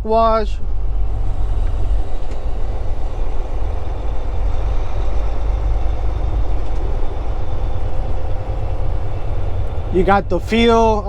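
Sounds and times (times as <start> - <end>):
diesel engine rumbling: 0.0 - 11.0
faint steady hum: 0.0 - 11.0.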